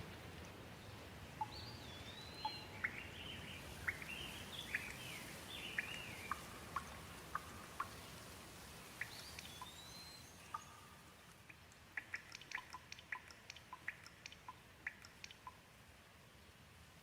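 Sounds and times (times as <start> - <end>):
raindrops dripping and plinking: 0.0 - 16.2
gentle rain hiss: 0.0 - 17.0.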